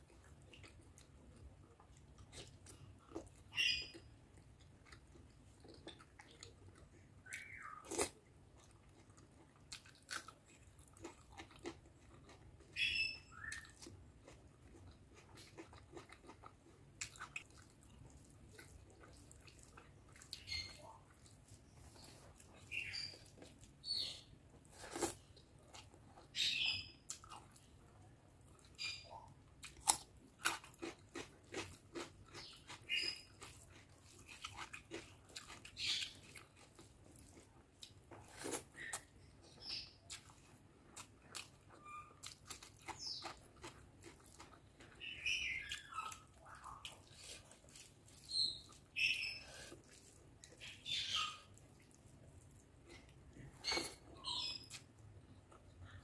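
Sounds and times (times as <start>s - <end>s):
person chewing and lip smacking: 0.0s - 56.0s.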